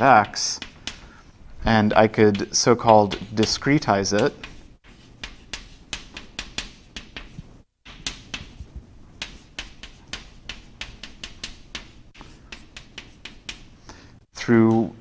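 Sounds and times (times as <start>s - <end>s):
chalk tapping and scratching: 0.0s - 15.0s.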